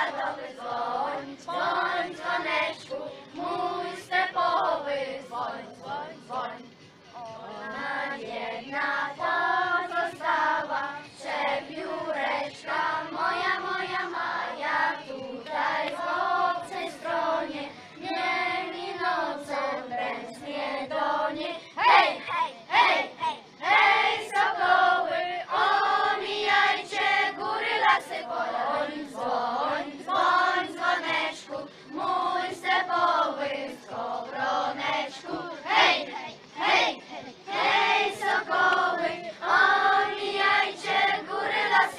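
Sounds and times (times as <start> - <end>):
children singing in chorus: 0.0 - 6.6, 7.2 - 41.9.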